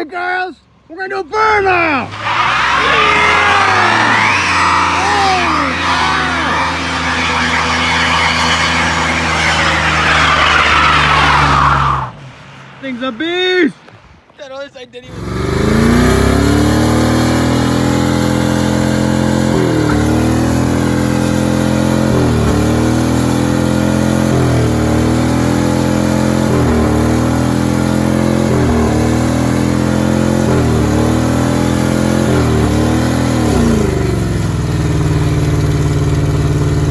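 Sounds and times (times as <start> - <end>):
tires spinning on pavement: 1.4 - 14.4, 15.0 - 36.9
van engine revving high: 1.6 - 12.3, 15.1 - 36.9.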